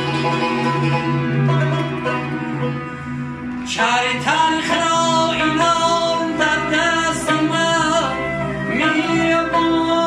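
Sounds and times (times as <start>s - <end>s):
instrumental song: 0.0s - 10.0s.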